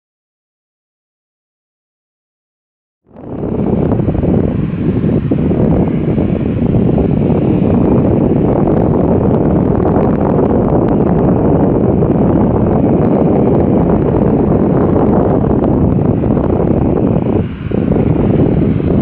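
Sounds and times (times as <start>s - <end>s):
jet engines: 3.1s - 19.0s
wind buffeting microphone: 3.1s - 19.0s.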